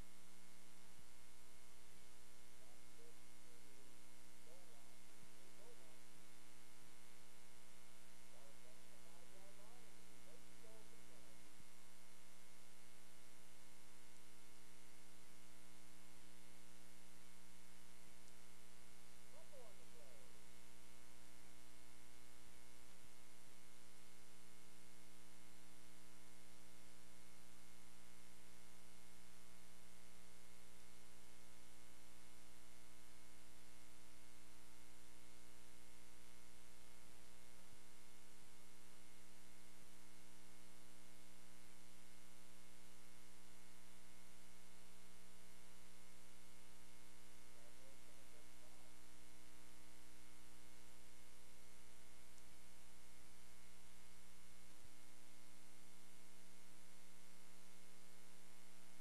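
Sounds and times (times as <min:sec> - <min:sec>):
electrical mains hum: 0:00.0 - 0:59.0
tape hiss: 0:00.0 - 0:59.0.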